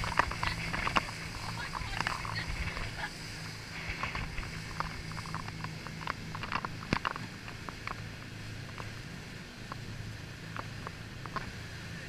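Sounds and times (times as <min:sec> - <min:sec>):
hull slapping through waves: 0:00.0 - 0:12.0
motorboat engine hum: 0:00.0 - 0:12.0.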